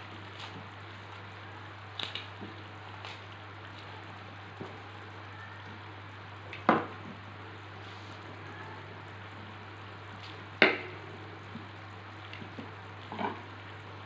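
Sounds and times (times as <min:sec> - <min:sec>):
curry bubbling and hissing: 0:00.0 - 0:14.0.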